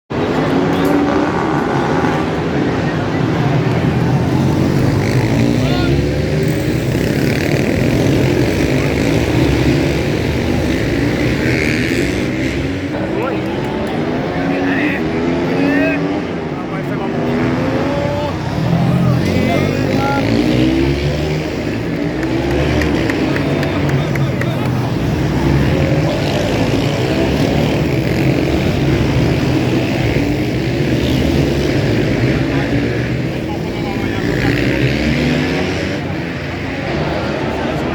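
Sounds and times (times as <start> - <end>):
motorcycle engines revving: 0.1 - 37.9.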